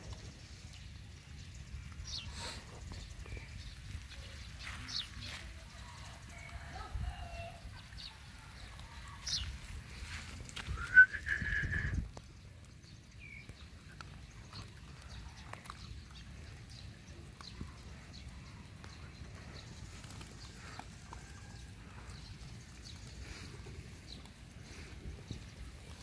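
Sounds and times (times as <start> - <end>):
dogs crunching dry kibble: 0.0 - 10.8, 12.1 - 26.0.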